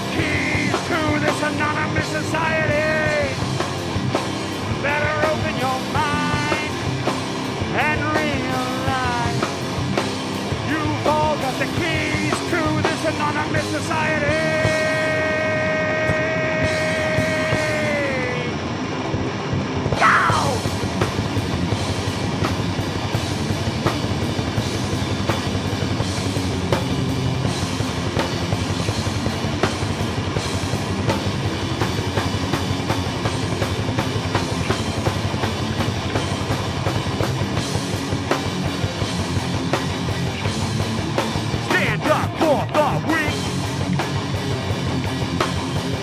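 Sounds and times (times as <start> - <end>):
heavy metal band playing live: 0.0 - 46.0.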